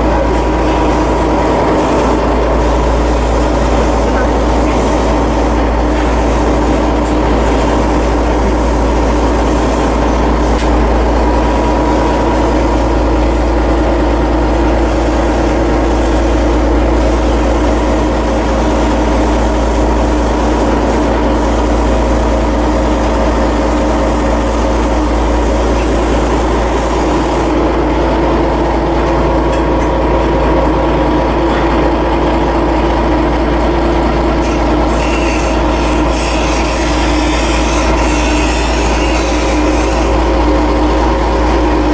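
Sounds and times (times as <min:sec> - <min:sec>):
heavy machinery drone: 0:00.0 - 0:41.9.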